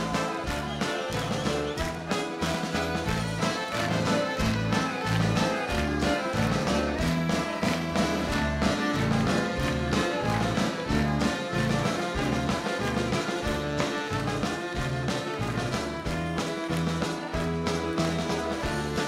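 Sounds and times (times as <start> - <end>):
live band music: 0.0 - 19.0
prominent bass line: 0.0 - 19.0.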